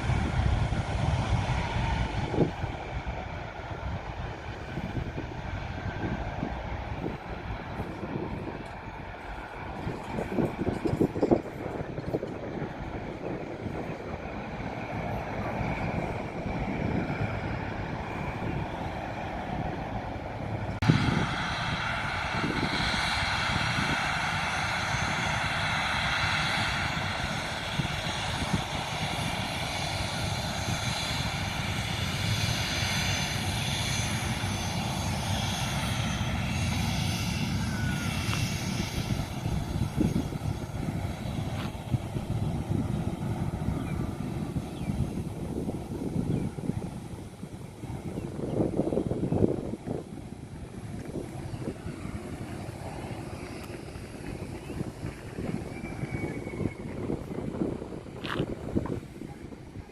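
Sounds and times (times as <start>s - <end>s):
airplane engines rumbling: 0.0s - 59.9s
high steady engine whine: 0.0s - 59.9s.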